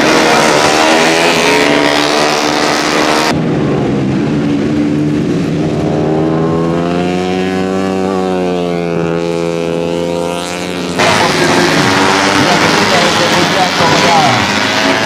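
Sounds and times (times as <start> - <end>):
motorcycle engines at high revs: 0.0 - 15.0.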